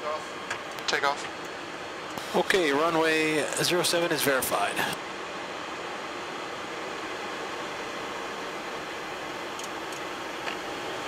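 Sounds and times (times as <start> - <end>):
air conditioning blowing: 0.0 - 11.0
jet engines at low power: 0.0 - 11.0.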